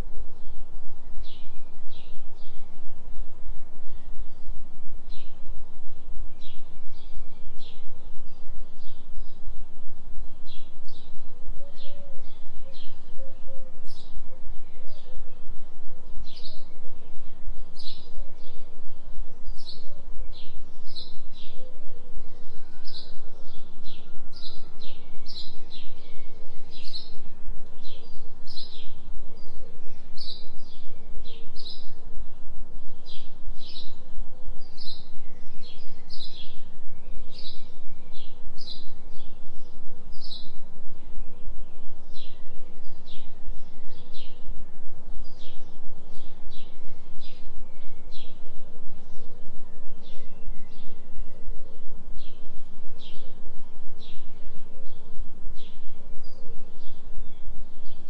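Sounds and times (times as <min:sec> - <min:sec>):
low binaural beat tone: 0:00.0 - 0:58.0
songbirds chirping: 0:00.0 - 0:58.0.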